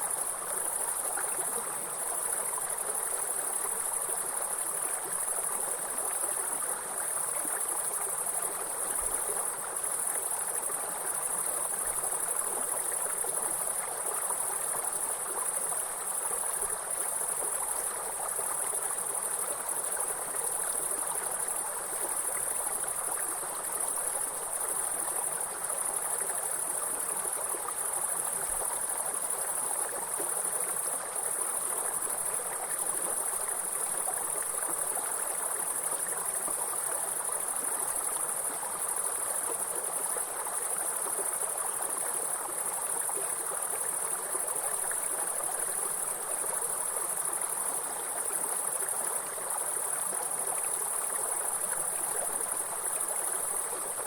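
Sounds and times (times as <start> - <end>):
flowing stream water: 0.0 - 54.0
high-pitched insect chorus: 0.0 - 54.0.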